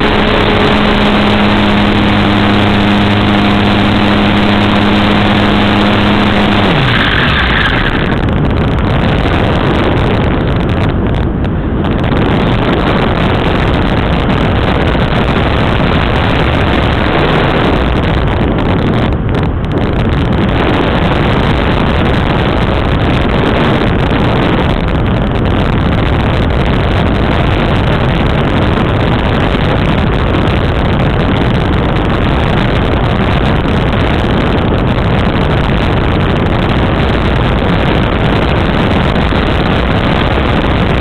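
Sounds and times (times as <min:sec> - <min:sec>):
aircraft engine drone: 0:00.0 - 0:41.0
wind rushing over camera: 0:00.0 - 0:41.0.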